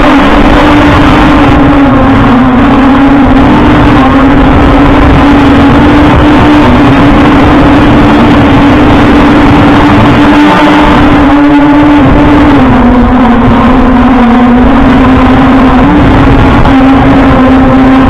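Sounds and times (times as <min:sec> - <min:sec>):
drone propellers buzzing: 0:00.0 - 0:18.0
wind rumble on microphone: 0:00.0 - 0:18.0.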